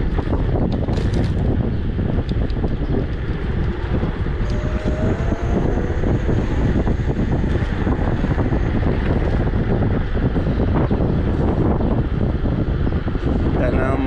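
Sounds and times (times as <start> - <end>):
low rumble: 0.0 - 14.0
wind buffeting microphone: 0.0 - 14.0.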